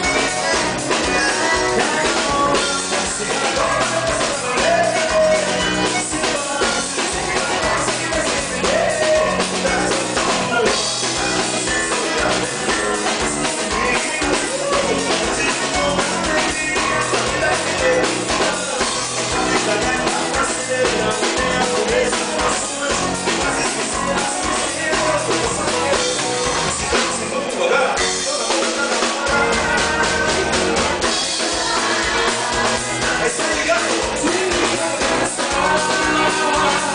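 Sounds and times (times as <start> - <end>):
band playing dance tune: 0.0 - 36.9
person singing: 0.0 - 36.9.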